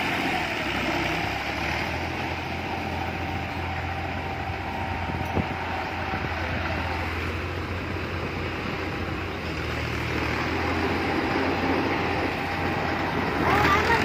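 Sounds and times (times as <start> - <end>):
blade pushing soil: 0.0 - 14.0
diesel tractor engines running: 0.0 - 14.0.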